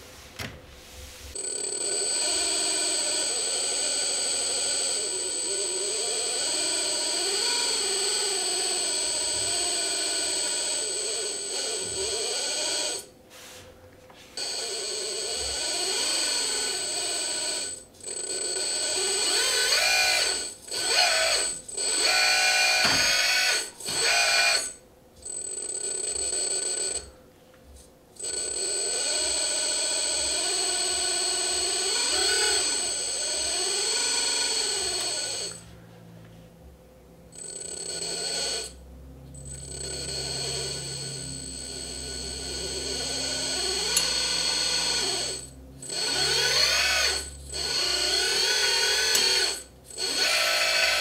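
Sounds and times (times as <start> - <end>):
electric hydraulic pump whining: 1.3 - 13.1, 14.4 - 24.8, 28.2 - 35.7, 37.4 - 38.8, 39.4 - 51.0.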